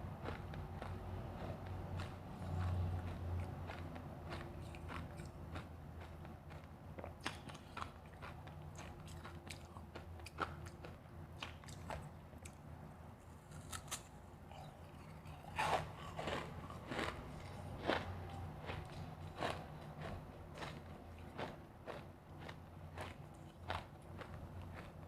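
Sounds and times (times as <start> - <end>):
chewing crunchy ice: 0.0 - 12.6, 13.4 - 25.0.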